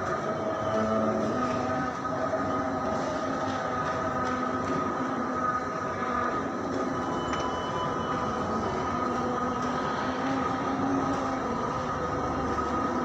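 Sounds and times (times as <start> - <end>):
metro train rumble and whine: 0.0 - 13.0.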